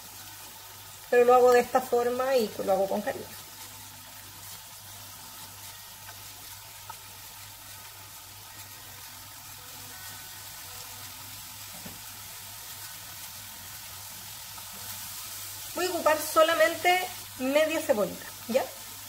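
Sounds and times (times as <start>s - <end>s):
frying pan sizzling: 0.0s - 19.0s.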